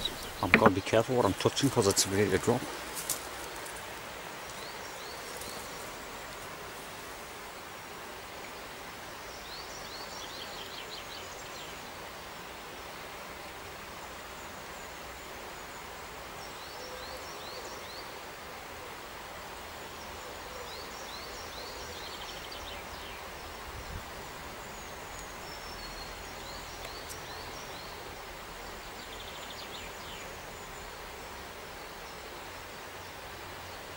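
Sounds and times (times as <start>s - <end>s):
background hiss: 0.0s - 33.9s.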